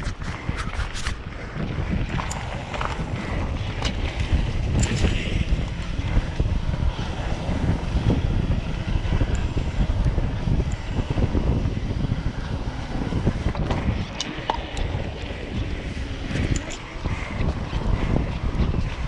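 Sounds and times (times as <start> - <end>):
bike clicks and rattles: 0.0 - 19.0
wind buffeting microphone: 0.0 - 19.0
tyres rolling on gravel: 0.1 - 19.0.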